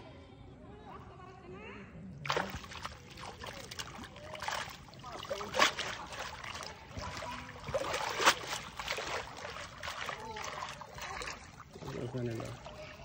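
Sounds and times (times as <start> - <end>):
water splashing and sloshing: 2.2 - 13.0.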